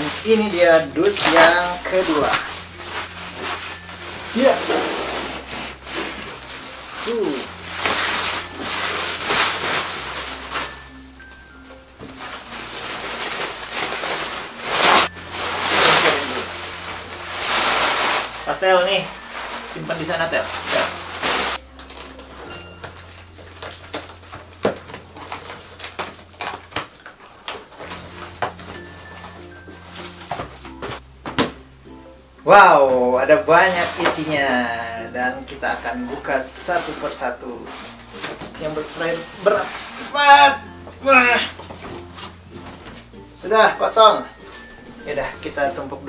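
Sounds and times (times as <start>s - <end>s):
plastic wrap and cardboard crinkling: 0.0s - 31.6s, 32.5s - 46.0s.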